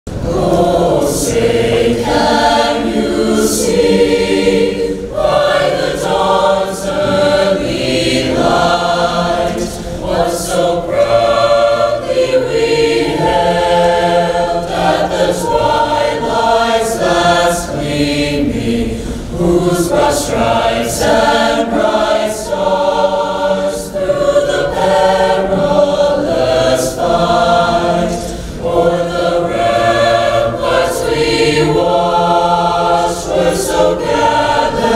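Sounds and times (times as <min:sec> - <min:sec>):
choir singing in harmony: 0:00.1 - 0:34.9.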